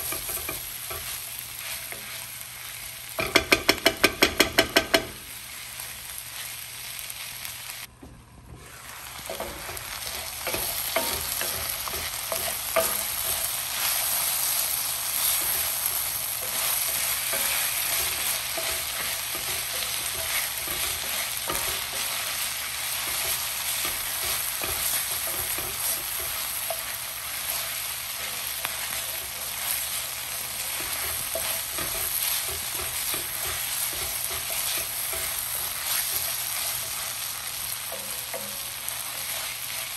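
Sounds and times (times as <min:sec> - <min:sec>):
wooden spoon scraping a pan: 0:00.0 - 0:02.7, 0:08.5 - 0:39.9
vegetables sizzling in oil: 0:00.0 - 0:07.9, 0:08.5 - 0:39.9.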